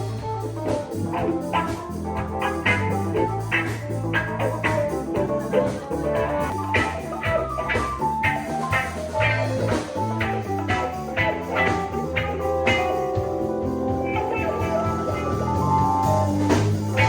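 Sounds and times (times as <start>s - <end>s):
band playing guitar bass and drums: 0.0s - 17.0s.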